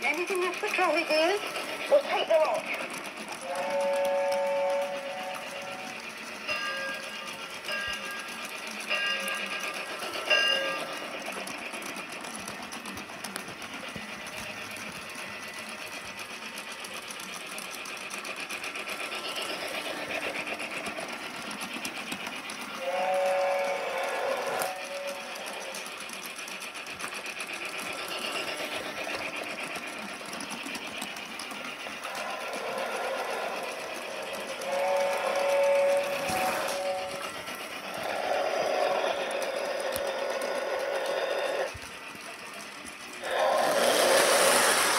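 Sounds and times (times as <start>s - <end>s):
toy train motor whirring: 0.0s - 44.9s.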